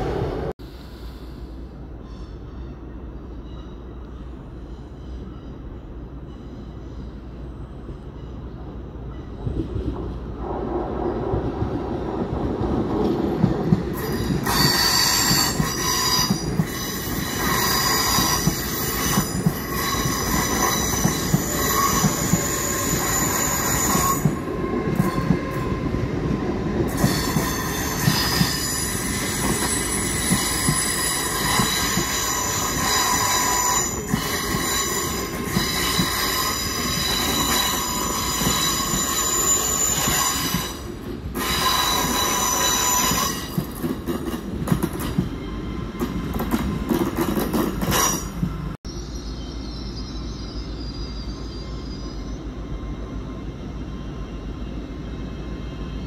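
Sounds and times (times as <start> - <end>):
train rumble: 0.0 - 56.0
train wheels squealing: 0.7 - 10.0, 13.9 - 56.0.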